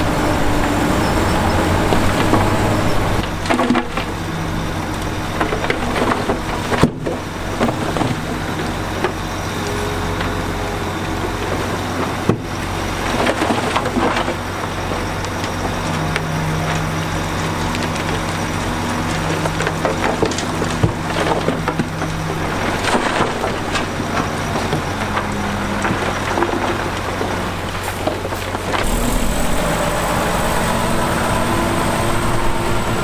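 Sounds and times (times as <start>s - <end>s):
heavy diesel machinery running: 0.0s - 33.0s
rock and dirt clattering: 1.8s - 33.0s.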